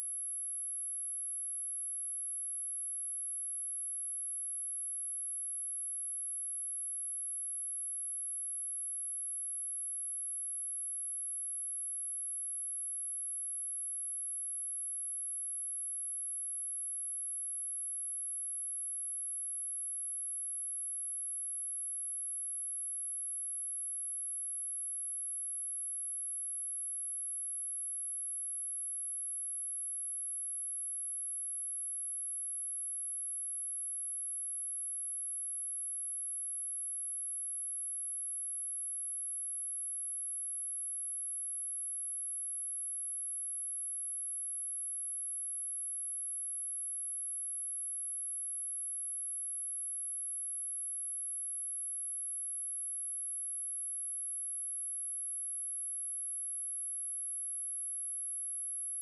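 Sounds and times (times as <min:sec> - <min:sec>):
high steady sine tone: 0:00.0 - 0:59.0.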